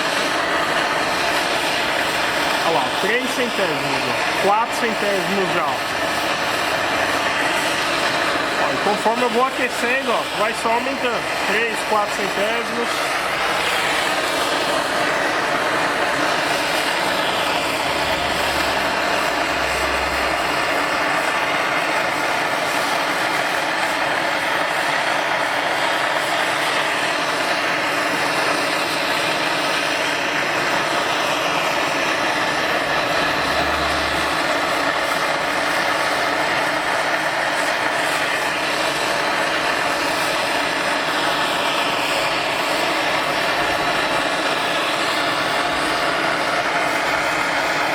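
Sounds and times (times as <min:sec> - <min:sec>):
gas torch hissing: 0:00.0 - 0:47.9.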